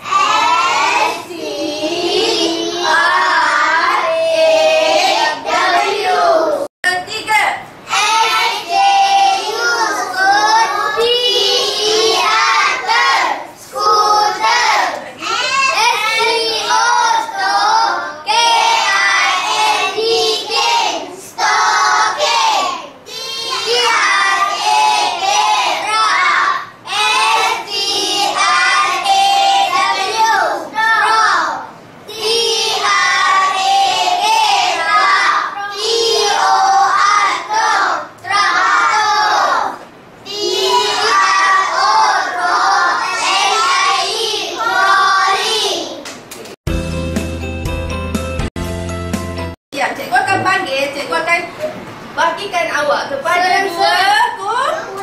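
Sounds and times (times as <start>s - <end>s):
children chanting in unison: 0.0s - 6.7s, 7.9s - 46.0s.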